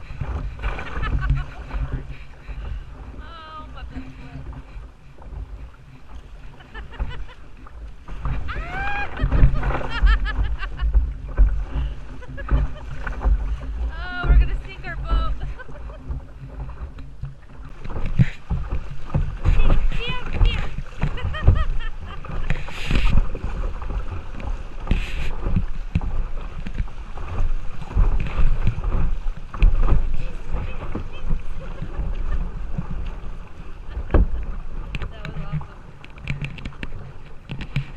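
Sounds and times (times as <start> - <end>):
river water rushing against kayak: 0.0 - 37.9
wind buffeting microphone: 0.0 - 37.9.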